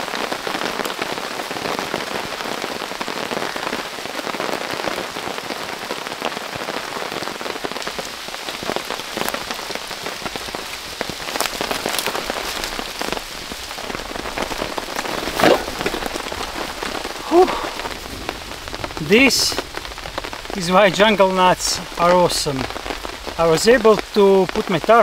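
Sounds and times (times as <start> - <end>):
heavy rain pattering: 0.0 - 25.0.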